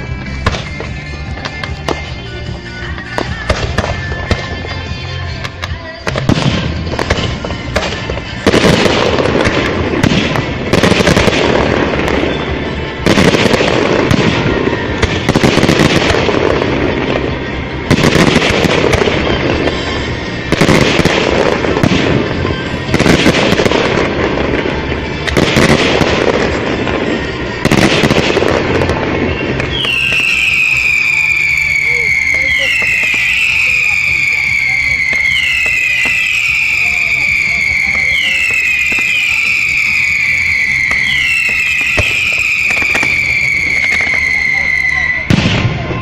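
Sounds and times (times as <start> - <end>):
crackling rumble: 0.0 - 44.4
music playing: 0.0 - 46.0.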